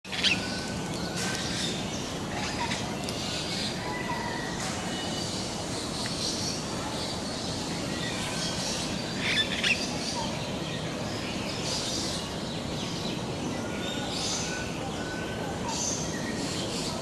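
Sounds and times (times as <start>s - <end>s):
birds chirping: 0.1s - 17.0s
steady background hiss: 0.1s - 17.0s.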